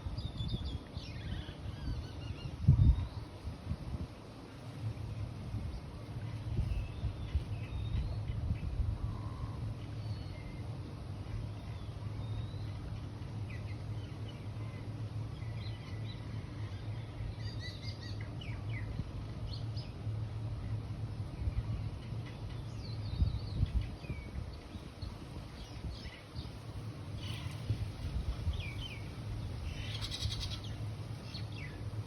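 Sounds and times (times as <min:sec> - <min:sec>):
small birds chirping: 0:00.0 - 0:03.5, 0:05.7 - 0:32.0
steady low rumble: 0:00.0 - 0:32.0.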